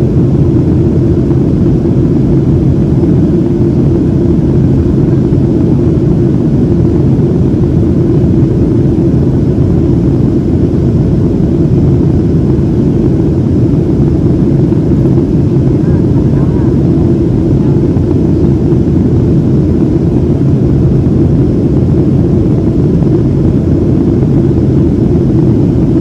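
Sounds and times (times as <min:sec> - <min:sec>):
jet engine rumble in cabin: 0:00.0 - 0:26.0.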